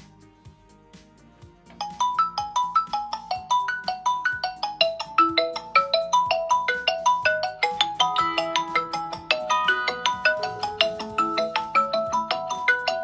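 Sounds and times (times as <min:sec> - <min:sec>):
marimba-like ringtone melody: 0:01.7 - 0:13.0.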